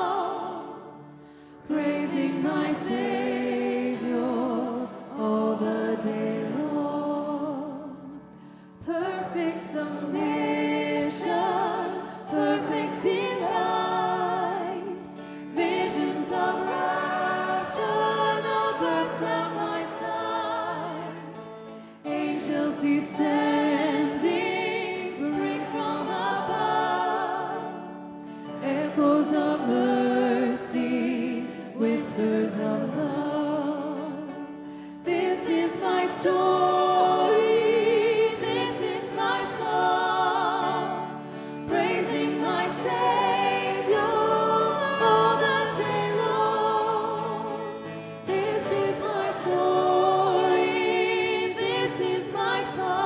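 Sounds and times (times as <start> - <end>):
acoustic guitar: 0.0 - 53.0
congregation singing a hymn: 0.0 - 53.0
piano: 0.0 - 53.0.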